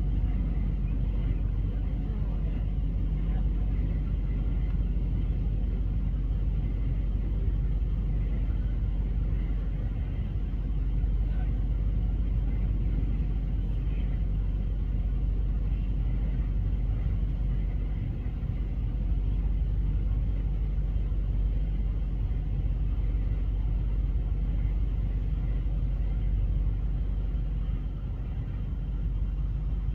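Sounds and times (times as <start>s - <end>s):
steady low rumble: 0.0s - 29.9s.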